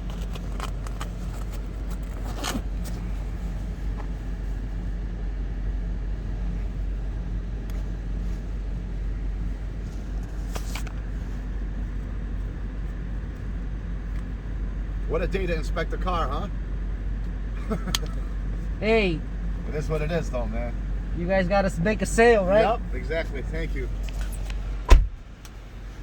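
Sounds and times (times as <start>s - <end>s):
car engine idling hum: 0.0s - 26.0s.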